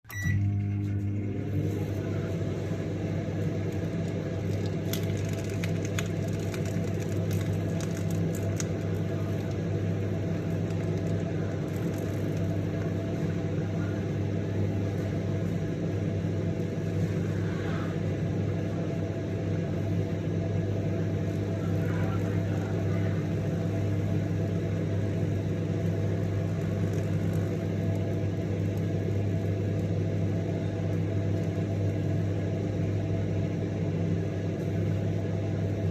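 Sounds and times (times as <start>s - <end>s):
microwave oven humming: 0.0s - 35.9s.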